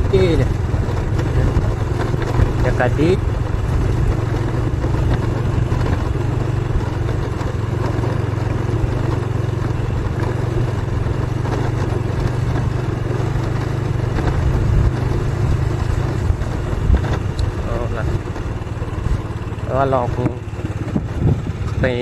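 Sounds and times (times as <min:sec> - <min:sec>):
motorcycle engine running: 0:00.0 - 0:22.0
rattle over rough ground: 0:00.0 - 0:22.0.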